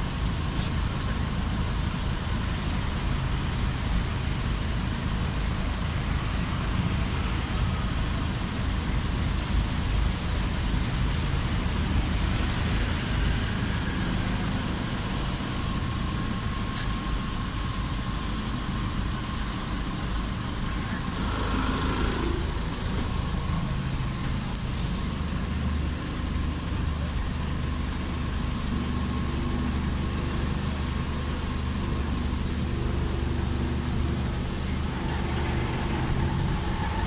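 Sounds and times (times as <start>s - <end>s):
vehicle engines idling and running: 0.0s - 37.0s.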